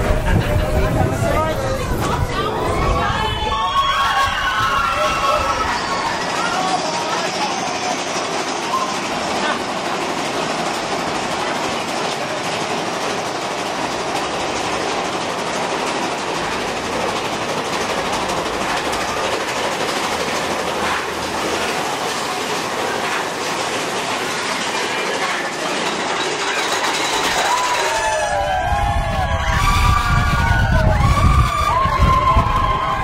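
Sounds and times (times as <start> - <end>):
roller coaster wheels clattering: 0.0 - 33.0.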